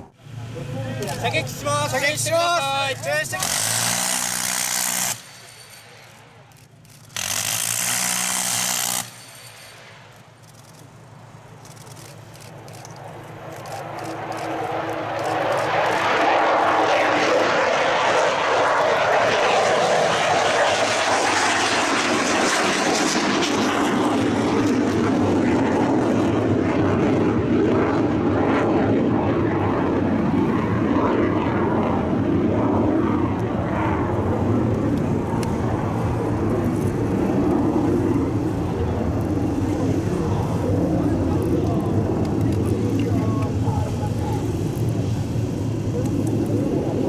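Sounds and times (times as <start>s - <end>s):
fighter jet roaring overhead: 0.0s - 6.6s, 11.0s - 47.0s.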